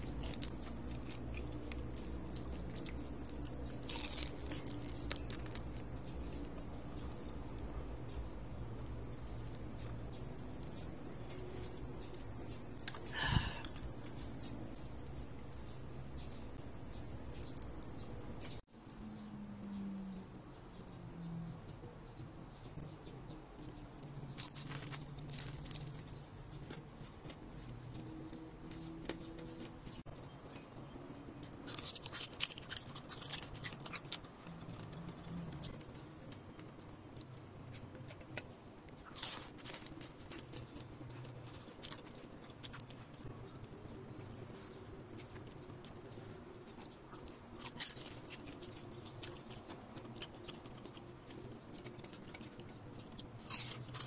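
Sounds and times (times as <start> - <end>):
crunchy chewing: 0.0 - 18.6, 23.6 - 54.0.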